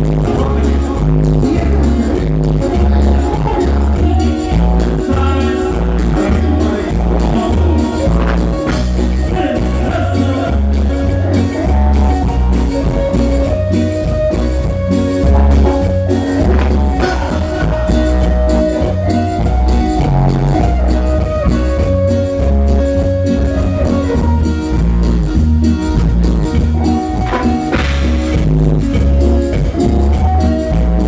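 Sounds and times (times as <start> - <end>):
bass guitar: 0.0 - 31.0
drums keeping steady beat: 0.0 - 31.0
guitar: 0.0 - 31.0
melody in long held notes: 0.0 - 31.0.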